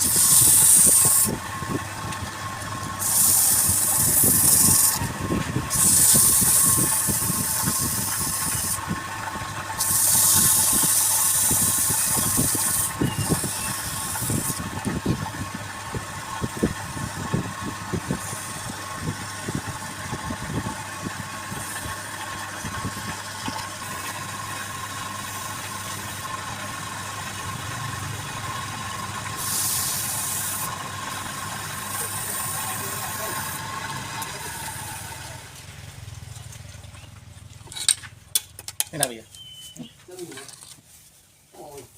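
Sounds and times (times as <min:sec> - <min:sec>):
turning tool cutting wood hissing: 0:00.0 - 0:35.7
wood lathe humming: 0:00.0 - 0:35.7.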